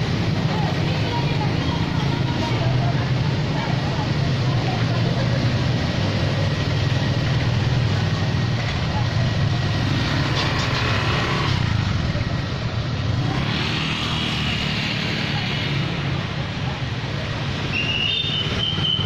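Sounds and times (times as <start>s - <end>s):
faint voices: 0.0s - 18.0s
motorcycle and car engines: 0.0s - 19.0s.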